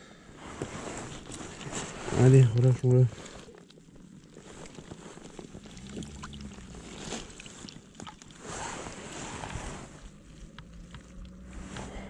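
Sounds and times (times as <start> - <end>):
water splashing and sloshing: 0.4 - 12.0.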